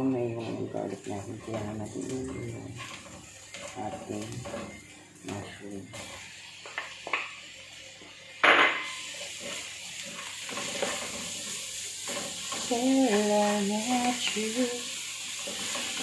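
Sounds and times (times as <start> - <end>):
mushrooms sizzling in a pan: 0.0 - 16.0.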